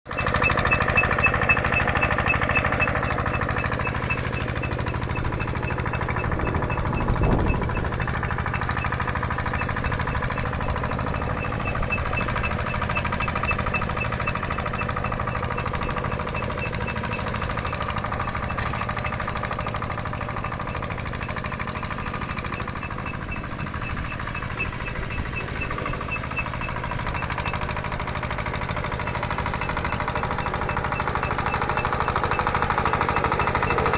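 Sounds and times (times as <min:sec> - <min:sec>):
machinery hammering rattle: 0:00.1 - 0:33.9.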